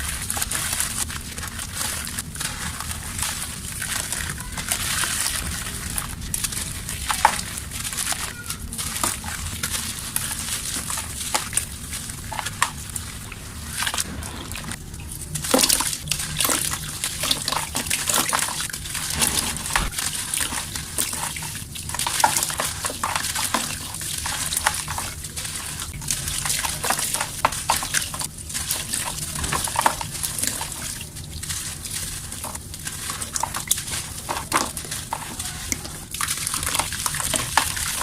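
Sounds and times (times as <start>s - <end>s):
dry mud crumbling and crunching: 0.0s - 38.0s.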